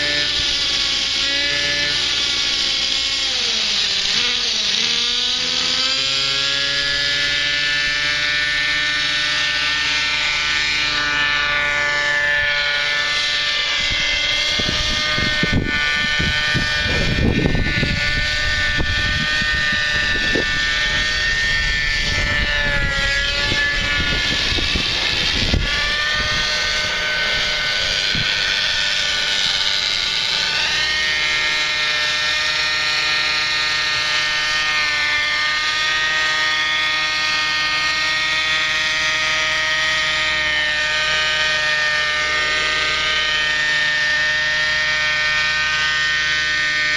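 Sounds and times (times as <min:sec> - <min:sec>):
model helicopter engine whine: 0:00.0 - 0:46.9.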